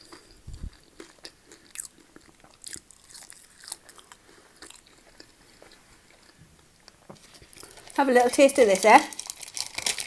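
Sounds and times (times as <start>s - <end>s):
person chewing crunchy food: 0.0s - 8.0s, 9.1s - 10.0s.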